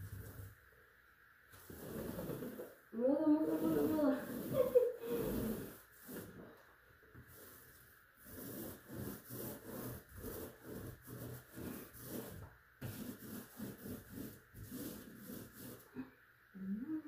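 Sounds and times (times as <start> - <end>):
paint roller rubbing on wall: 0.0 - 0.6, 1.5 - 16.0.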